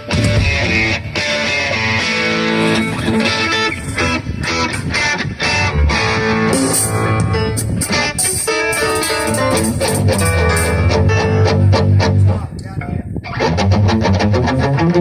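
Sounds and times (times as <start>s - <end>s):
rock band playing: 0.0s - 12.3s, 13.3s - 15.0s
electric guitar: 0.0s - 15.0s
low bass line: 0.0s - 15.0s.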